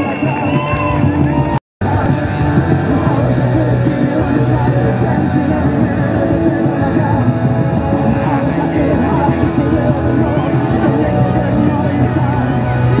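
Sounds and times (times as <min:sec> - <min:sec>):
rock song with guitar: 0:00.0 - 0:13.0
person singing: 0:01.8 - 0:13.0.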